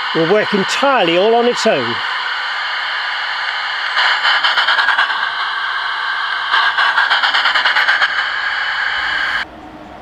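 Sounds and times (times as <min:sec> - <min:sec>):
rapid steam chuffs: 0:00.0 - 0:09.5
steam hiss through small speaker: 0:00.0 - 0:09.5.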